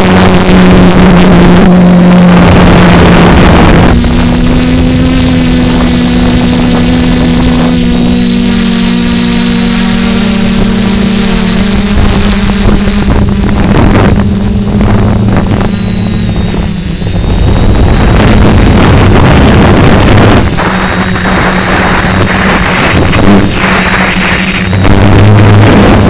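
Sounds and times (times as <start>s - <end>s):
drone propellers buzzing: 0.0s - 26.0s
wind buffeting microphone: 0.0s - 26.0s.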